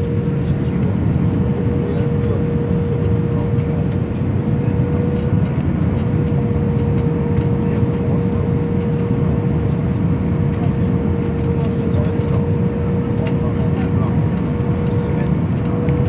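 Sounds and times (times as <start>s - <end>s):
constant cabin hum: 0.0s - 16.0s
jet engines and airflow rumble: 0.0s - 16.0s.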